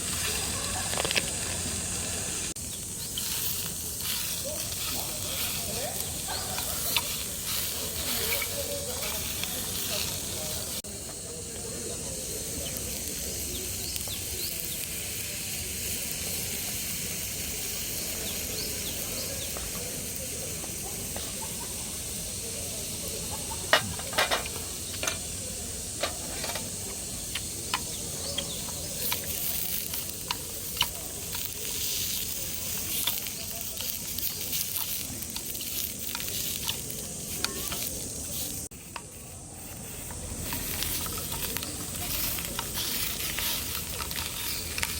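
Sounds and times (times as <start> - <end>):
food sizzling in a frying pan: 0.0 - 44.9
sharp pops and crackles: 0.0 - 44.9.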